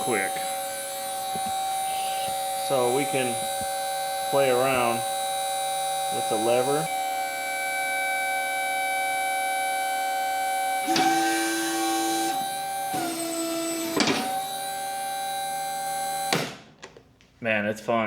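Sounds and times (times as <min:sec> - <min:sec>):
electric hydraulic pump whine: 0:00.0 - 0:16.7.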